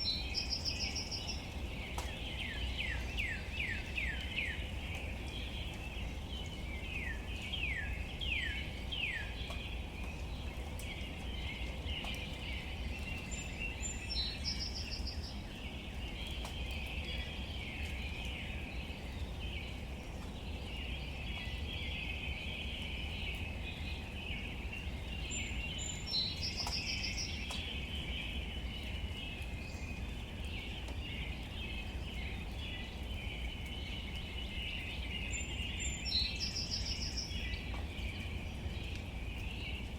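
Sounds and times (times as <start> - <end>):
bird song phrase: 0.0 - 39.9.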